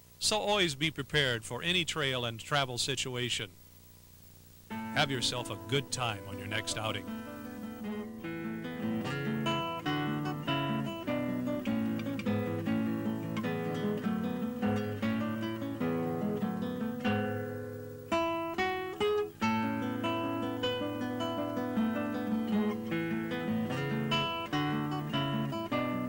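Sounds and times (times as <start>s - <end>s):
acoustic guitar picking: 4.7s - 26.0s.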